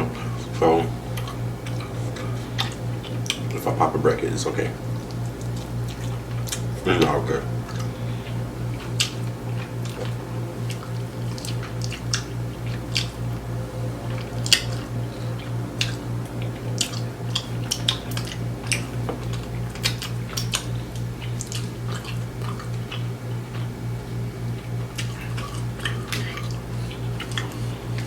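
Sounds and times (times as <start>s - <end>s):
person chewing and lip-smacking: 0.0s - 28.0s
pulsing low hum: 0.0s - 28.0s.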